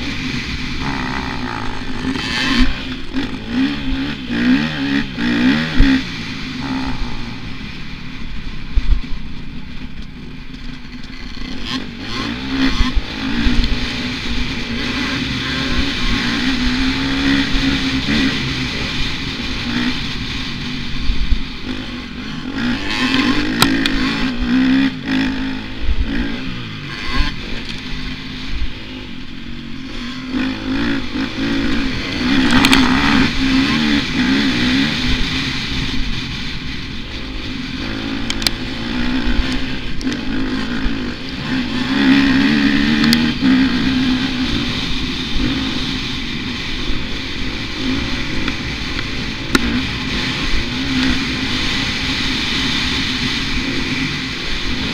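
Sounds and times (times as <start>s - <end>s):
dirt bike engine revving: 0.0s - 9.2s, 10.6s - 54.9s.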